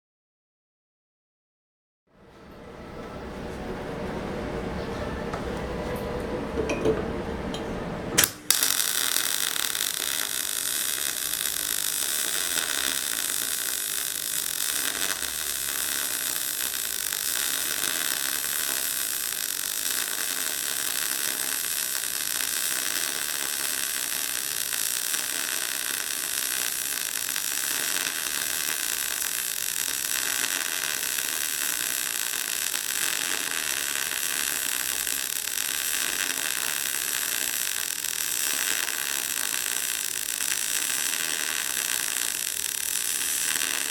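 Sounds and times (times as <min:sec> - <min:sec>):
welding arc hissing crackle: 0:08.2 - 0:43.9.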